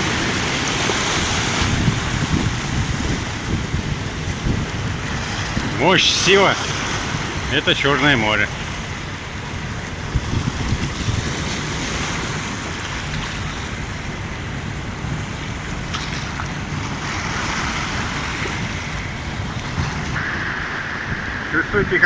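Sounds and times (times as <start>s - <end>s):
wind buffeting microphone: 0.0s - 5.9s, 8.5s - 22.0s
surf breaking on shore: 0.0s - 22.0s.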